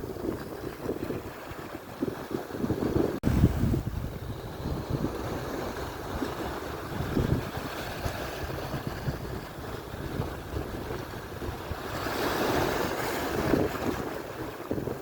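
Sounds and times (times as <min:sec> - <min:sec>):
surf breaking on shore: 0:00.0 - 0:15.0
wind buffeting microphone: 0:00.0 - 0:15.0.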